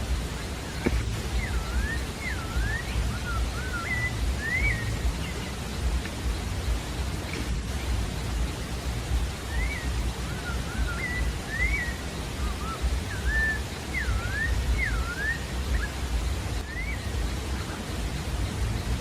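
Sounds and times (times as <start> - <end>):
low rushing noise: 0.0 - 19.0
bird singing whistled notes: 0.2 - 6.9, 7.7 - 19.0.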